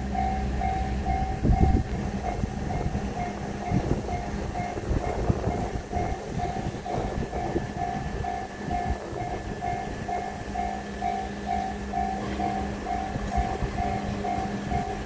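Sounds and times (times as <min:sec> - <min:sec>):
level crossing warning bell: 0:00.0 - 0:15.0
low uneven rumble: 0:00.0 - 0:15.0.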